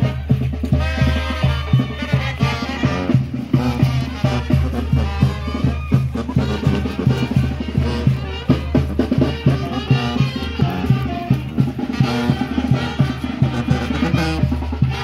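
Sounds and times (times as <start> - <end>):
brass band playing dance music: 0.0 - 15.0
drum and bass beat: 0.0 - 15.0.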